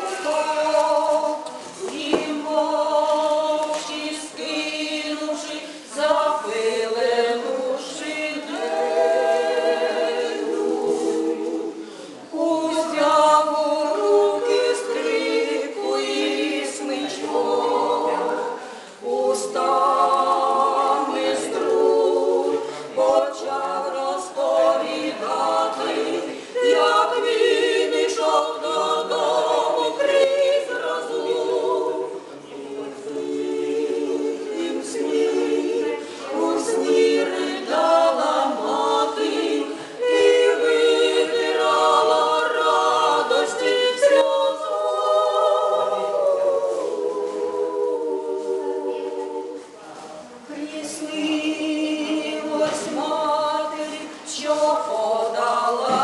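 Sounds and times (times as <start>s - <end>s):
women singing a cappella: 0.0s - 56.0s.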